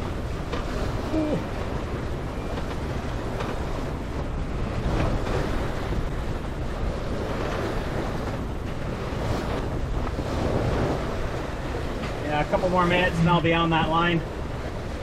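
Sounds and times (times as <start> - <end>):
waves splashing against hull: 0.0 - 15.0
wind buffeting microphone: 0.0 - 15.0.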